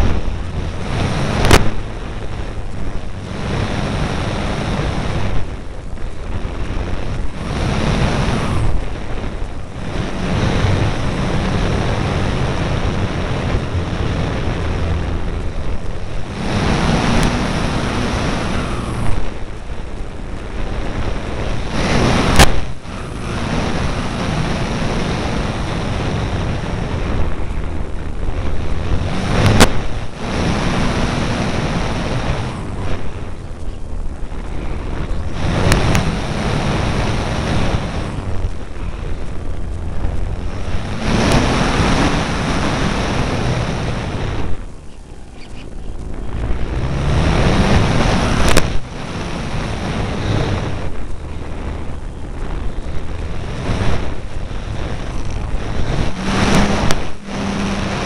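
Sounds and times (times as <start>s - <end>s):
airflow rushing over microphone: 0.0s - 58.0s
electric motor and propeller drone: 0.0s - 58.0s.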